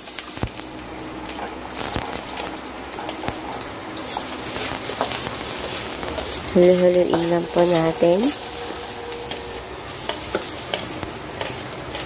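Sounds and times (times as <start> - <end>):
onion sizzling in hot oil: 0.0 - 12.0
spatula tapping and scraping wok: 1.3 - 12.0.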